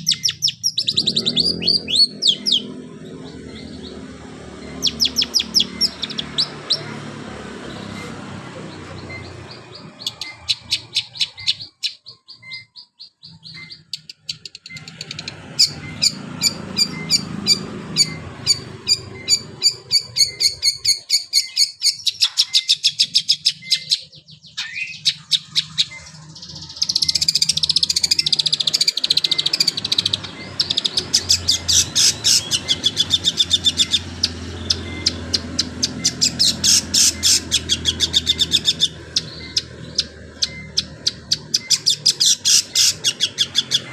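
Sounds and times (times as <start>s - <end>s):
bird singing fast trills: 0.0s - 43.9s.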